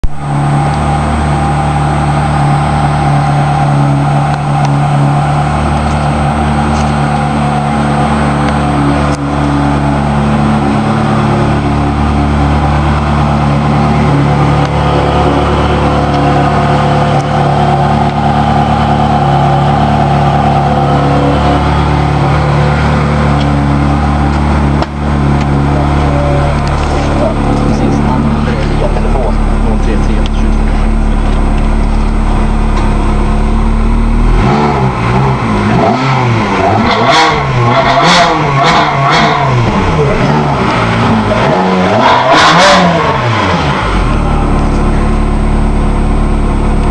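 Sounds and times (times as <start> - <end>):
sports car engine idling: 0.0 - 46.9.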